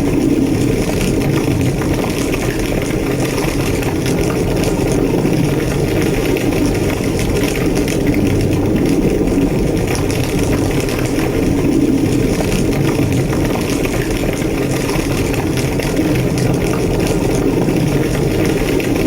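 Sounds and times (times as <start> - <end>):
fire crackles: 0.0 - 19.0
fire roaring: 0.0 - 19.0.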